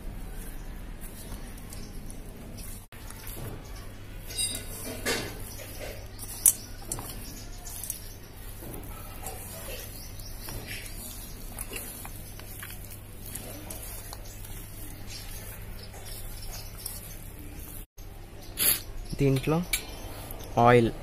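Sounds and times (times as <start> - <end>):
hand squelching raw chicken: 0.0 - 17.9.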